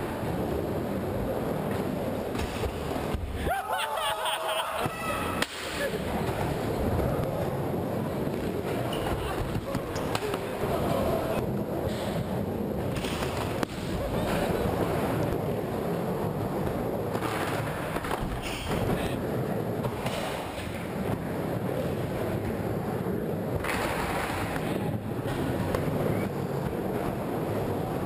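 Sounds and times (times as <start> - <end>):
skateboard wheels rolling: 0.0 - 3.7, 4.5 - 28.0.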